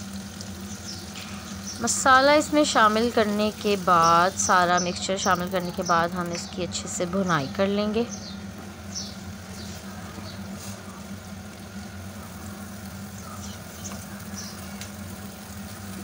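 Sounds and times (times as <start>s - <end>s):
paste frying in a pan: 0.0s - 16.0s
steady low hum: 0.0s - 16.0s.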